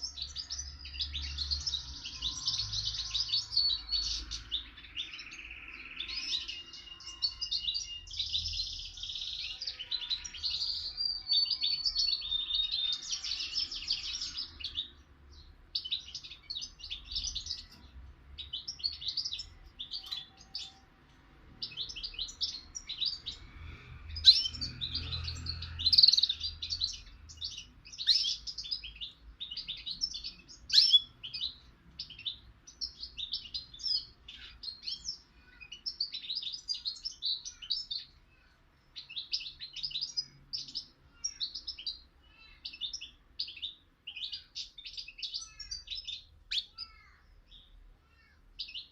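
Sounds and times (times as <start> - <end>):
songbird twittering song: 0.0 - 48.9.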